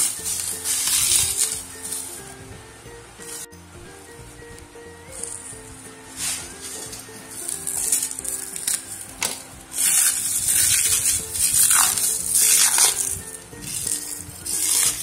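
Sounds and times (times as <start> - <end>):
plastic wrap crinkling: 0.0 - 2.2, 5.2 - 15.0
soft background music: 0.0 - 15.0.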